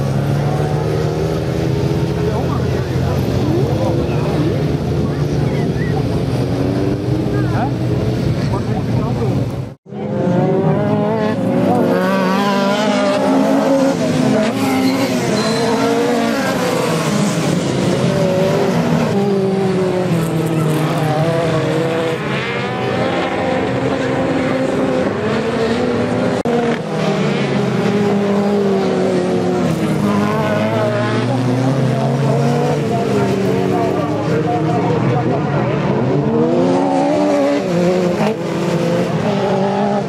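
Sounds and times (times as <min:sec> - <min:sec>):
racing car engines accelerating: 0:00.0 - 0:40.0.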